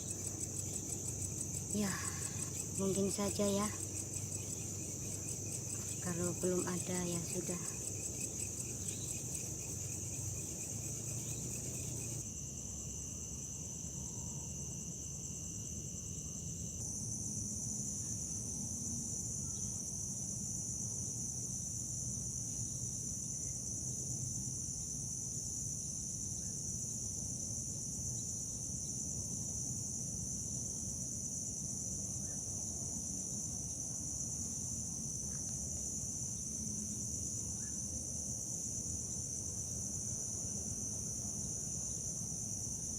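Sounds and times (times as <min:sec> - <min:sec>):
insect chorus chirring: 0:00.0 - 0:23.8, 0:24.8 - 0:42.9.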